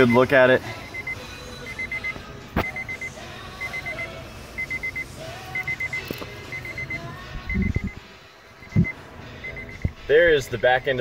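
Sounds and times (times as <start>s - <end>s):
dashboard warning chime beeping: 0.0s - 11.0s.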